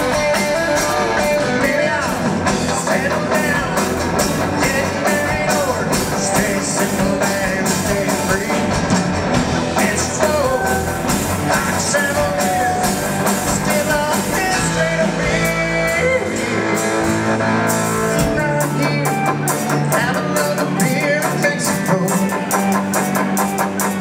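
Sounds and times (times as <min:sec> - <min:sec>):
person singing: 0:00.0 - 0:09.0, 0:09.6 - 0:23.2
rock band playing: 0:00.0 - 0:24.0.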